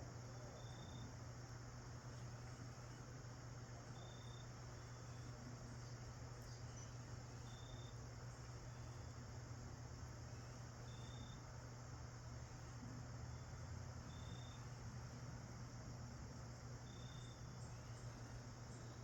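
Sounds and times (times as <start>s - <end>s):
faint cricket chirps: 0.0s - 19.0s
low hum and hiss: 0.0s - 19.0s.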